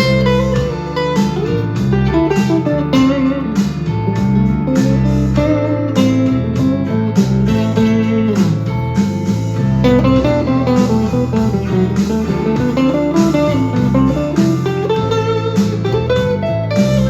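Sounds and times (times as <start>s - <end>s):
electric guitar blues lead: 0.0s - 17.0s
steady beat: 0.0s - 17.0s.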